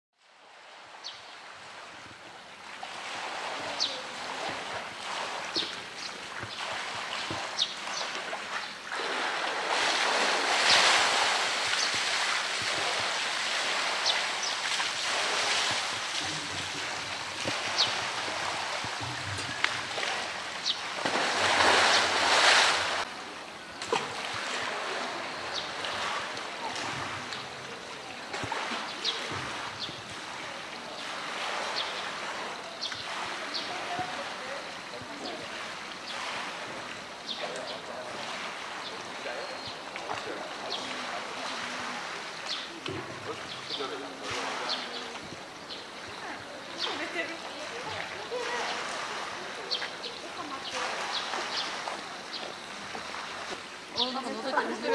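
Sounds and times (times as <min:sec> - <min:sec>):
water splashing and churning: 0:00.2 - 0:54.9.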